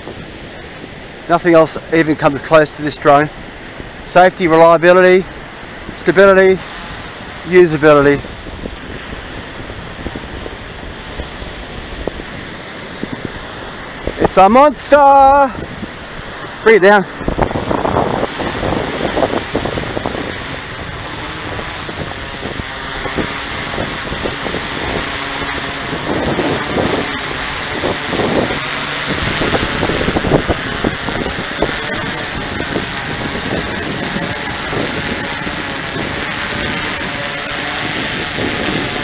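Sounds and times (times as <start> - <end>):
drone propellers buzzing: 0.0 - 39.0
gusty wind: 0.0 - 39.0.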